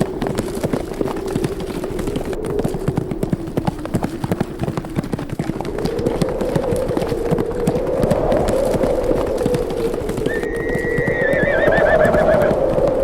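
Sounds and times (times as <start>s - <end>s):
horses galloping: 0.0s - 13.0s
wind moaning: 0.0s - 13.0s.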